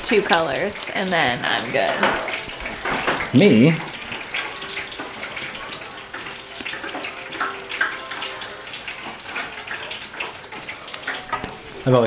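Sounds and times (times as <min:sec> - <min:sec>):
deep fryer sizzling: 0:00.0 - 0:12.0.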